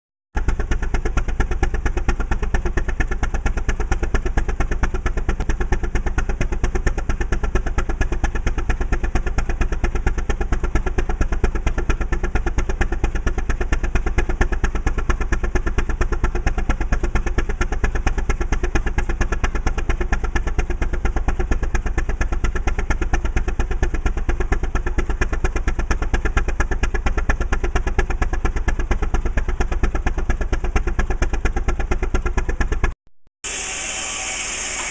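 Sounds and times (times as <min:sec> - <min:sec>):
tractor engine running under load: 0:00.4 - 0:34.9.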